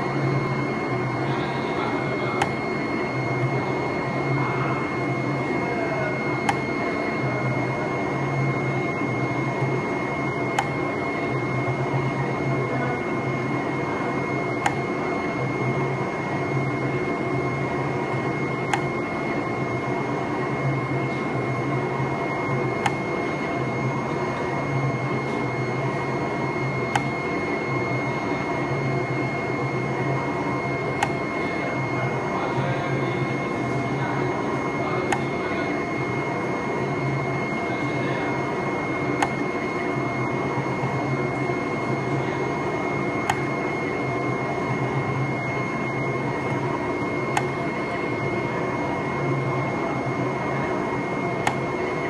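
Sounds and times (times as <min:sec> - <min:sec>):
cutting machine whir and whine: 0:00.0 - 0:52.0
low motor hum: 0:00.0 - 0:52.0.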